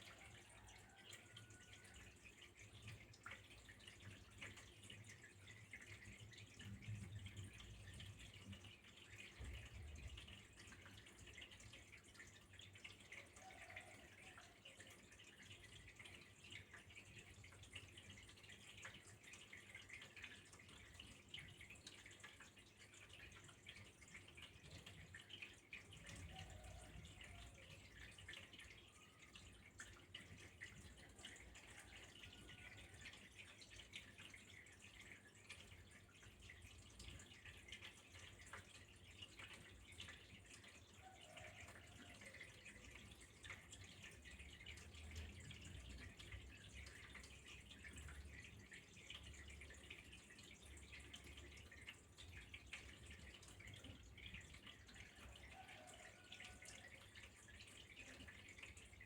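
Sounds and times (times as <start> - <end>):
water dripping: 0.0 - 59.0
water trickling: 0.0 - 59.0.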